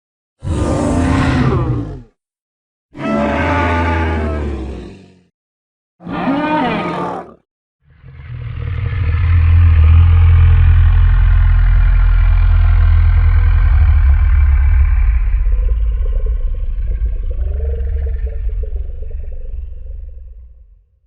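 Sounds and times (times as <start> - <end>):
deep rumbling creature call: 0.4 - 2.2, 3.0 - 5.3, 6.0 - 21.0.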